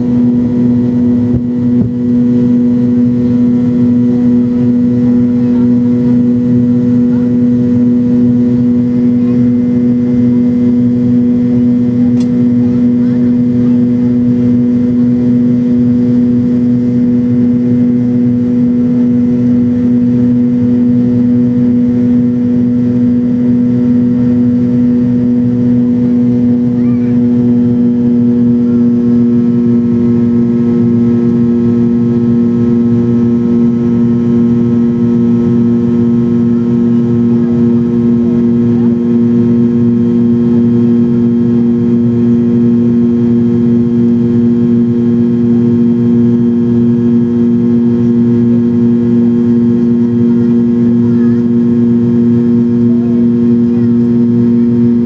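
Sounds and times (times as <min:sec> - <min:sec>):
jet engines droning in cabin: 0:00.0 - 0:55.0.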